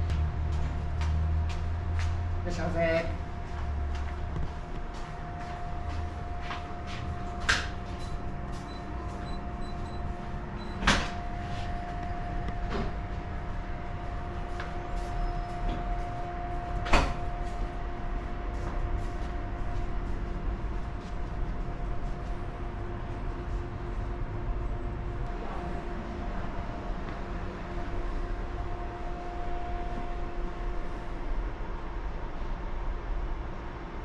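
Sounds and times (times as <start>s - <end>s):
electrical hum of appliances: 0.0s - 34.0s.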